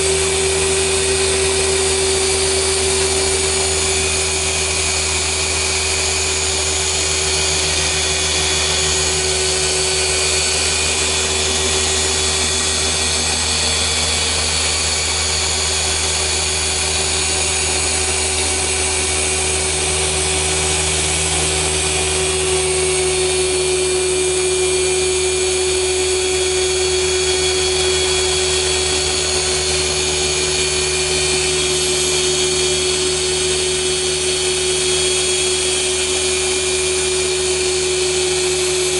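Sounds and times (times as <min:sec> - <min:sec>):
polisher running: 0:00.0 - 0:38.9.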